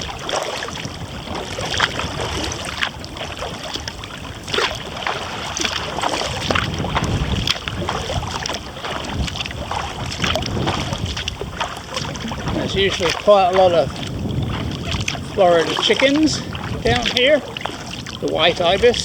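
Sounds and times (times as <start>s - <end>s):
water dripping: 0.0s - 18.6s
kayak paddle splashing: 0.0s - 19.0s
wind rumble on microphone: 0.0s - 19.0s.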